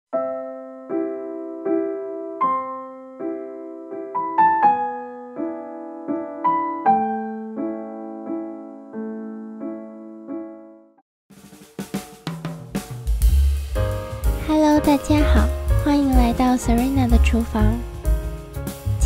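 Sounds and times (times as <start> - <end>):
slow piano chords: 0.2 - 11.0, 13.8 - 19.0.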